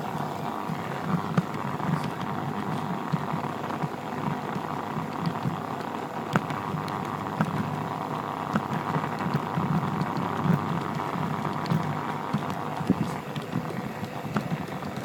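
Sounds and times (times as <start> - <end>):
model train motor and wheel hum: 0.0 - 15.0.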